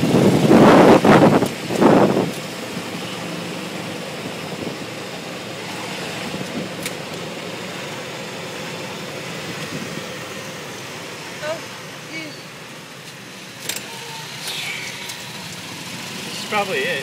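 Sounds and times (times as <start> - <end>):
golf cart humming: 0.0 - 17.0
road noise: 0.0 - 17.0.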